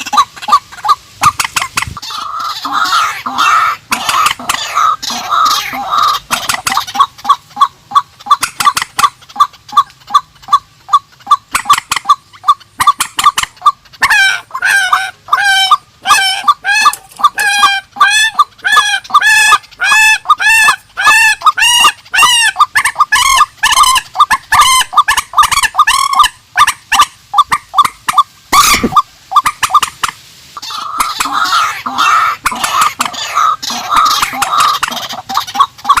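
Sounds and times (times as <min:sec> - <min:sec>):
birds arched calls: 0:00.0 - 0:36.0
birds clucking calls: 0:00.0 - 0:36.0.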